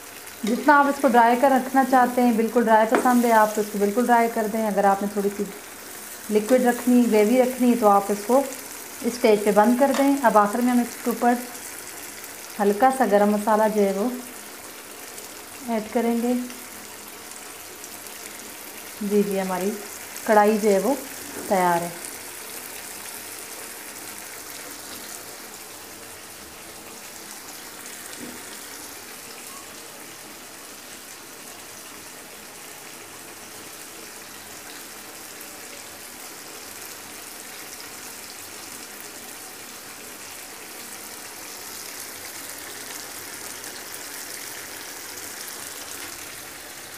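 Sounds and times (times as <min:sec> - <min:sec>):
chicken sizzling in a wok: 0:00.0 - 0:46.9.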